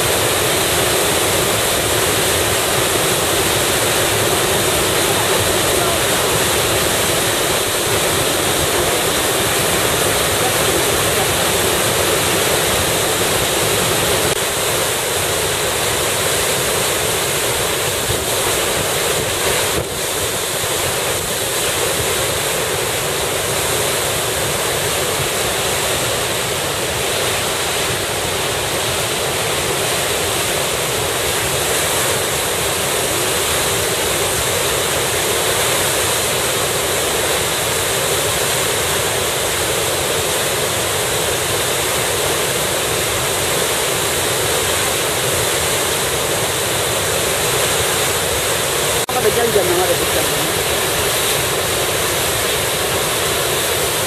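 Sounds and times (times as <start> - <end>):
waterfall crashing: 0.0 - 54.0.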